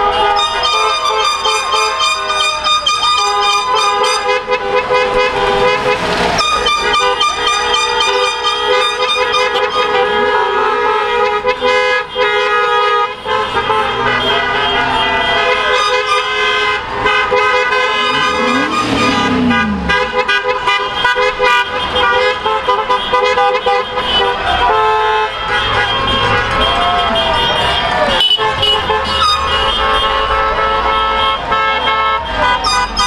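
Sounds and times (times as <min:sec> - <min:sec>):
car engines and tyre noise: 0:00.0 - 0:33.0
car horns honking: 0:00.0 - 0:33.0.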